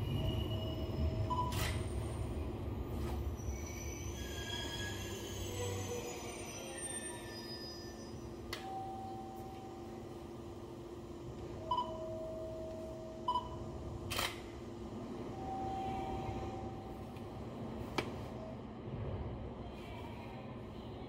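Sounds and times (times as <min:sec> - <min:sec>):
train electrical hum: 0:00.0 - 0:21.0.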